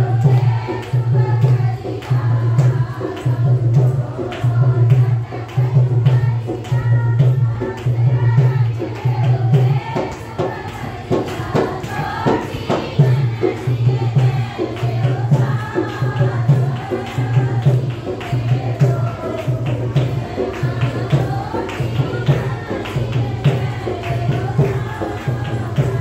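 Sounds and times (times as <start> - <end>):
pulsing drum beat: 0.0 - 26.0
sharp percussive strikes: 0.0 - 26.0
voices singing together: 0.0 - 26.0.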